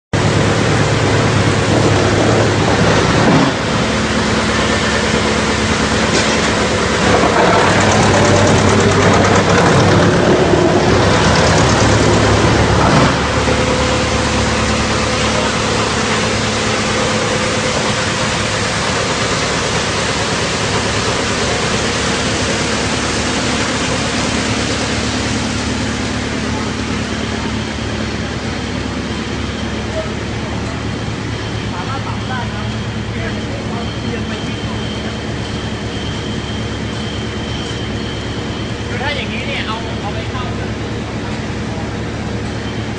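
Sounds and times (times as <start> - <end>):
wood chipper running: 0.2 - 42.9.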